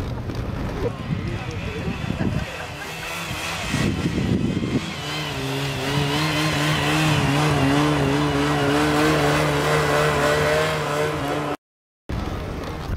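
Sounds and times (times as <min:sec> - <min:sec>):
snowmobile engine running: 0:00.0 - 0:11.6.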